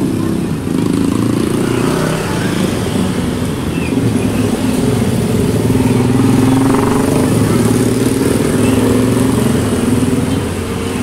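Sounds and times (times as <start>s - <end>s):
motorbike and scooter engines: 0.0s - 11.0s.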